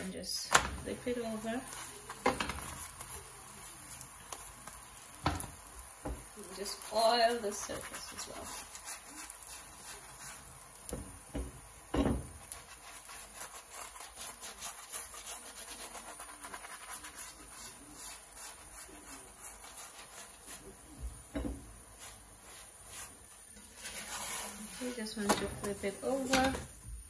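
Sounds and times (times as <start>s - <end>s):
hand rubbing oil on roti in pan: 0.9s - 26.7s.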